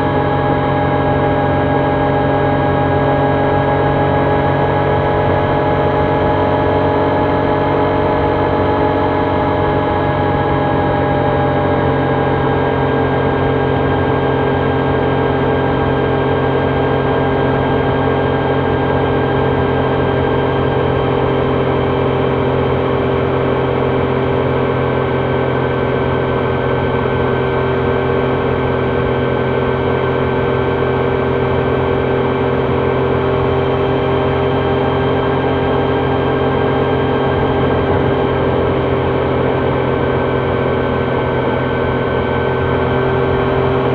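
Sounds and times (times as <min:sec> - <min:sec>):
motorcycle engine cruising: 0:00.0 - 0:43.9
wind and road noise: 0:00.0 - 0:43.9.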